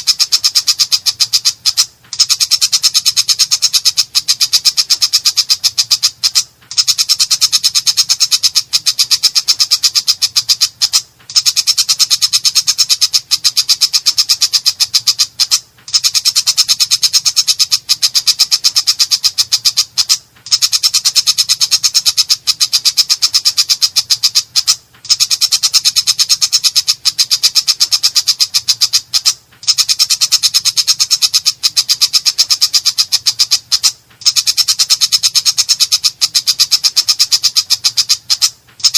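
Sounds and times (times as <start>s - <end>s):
shrike harsh chattering song: 0.0s - 38.9s.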